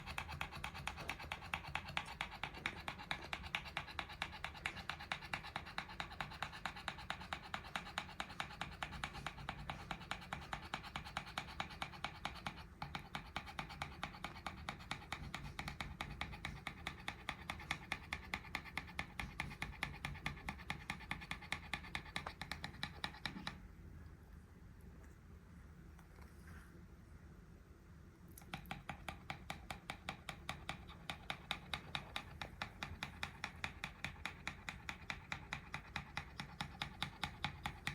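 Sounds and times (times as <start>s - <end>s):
dog panting: 0.0s - 23.6s, 28.6s - 37.9s.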